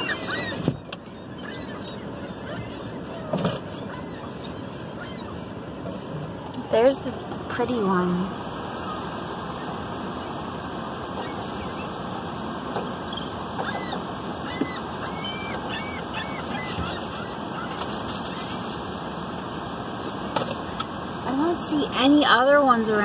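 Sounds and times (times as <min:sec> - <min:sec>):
gulls calling: 0:00.0 - 0:22.4.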